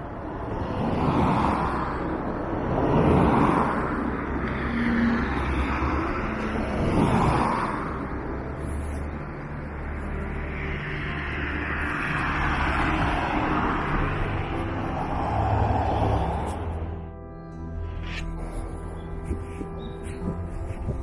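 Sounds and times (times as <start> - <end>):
vehicles passing on street: 0.0 - 21.0.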